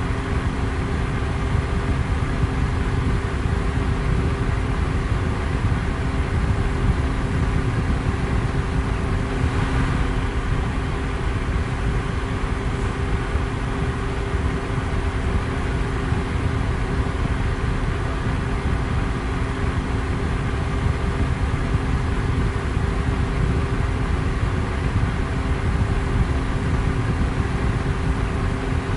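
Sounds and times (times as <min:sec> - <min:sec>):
electric fan rushing: 0:00.0 - 0:28.9
faint steady hum: 0:00.0 - 0:28.9.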